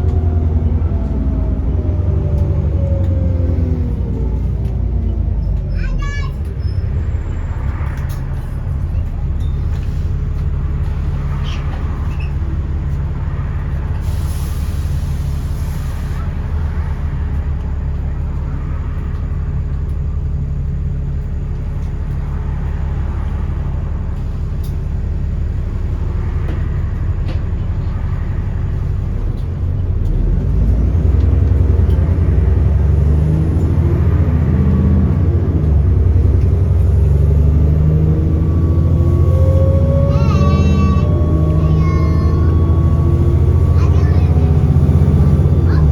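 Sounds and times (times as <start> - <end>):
bus diesel engine accelerating: 0.0 - 45.9.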